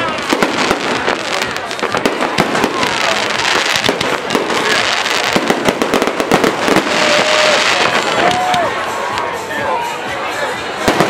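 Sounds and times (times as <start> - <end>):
fireworks bursting: 0.0 - 9.4, 10.7 - 11.0.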